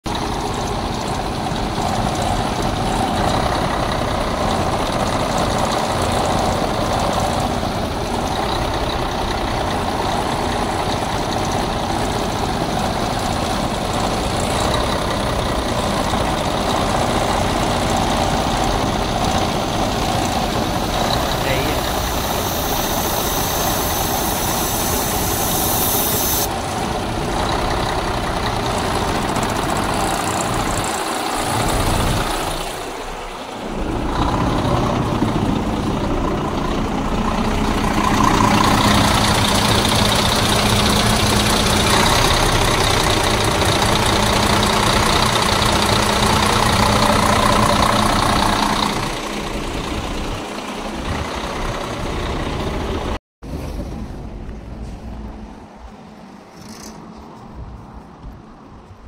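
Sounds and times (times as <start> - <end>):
truck diesel engine idling: 0.0 - 53.2.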